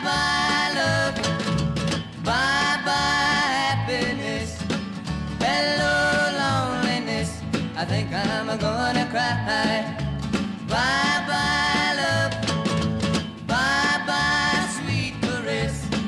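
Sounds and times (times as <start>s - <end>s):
country music with steady beat: 0.0s - 16.0s.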